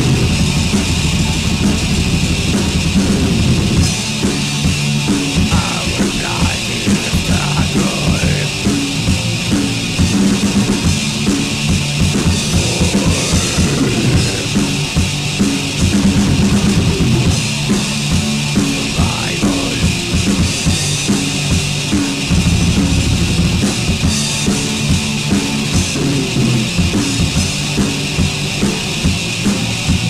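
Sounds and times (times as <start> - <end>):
repeating low guitar riff: 0.0 - 29.4
fast drum kit: 0.0 - 30.0.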